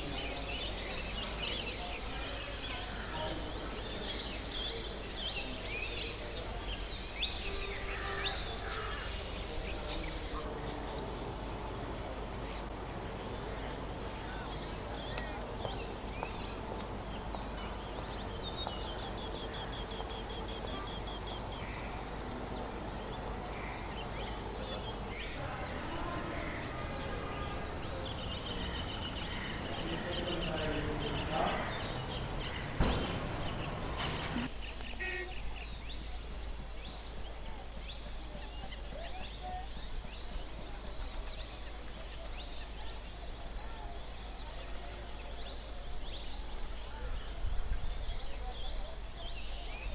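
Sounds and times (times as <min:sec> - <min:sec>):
insects chirping: 0:00.0 - 0:49.9
outdoor ambience: 0:00.0 - 0:49.9.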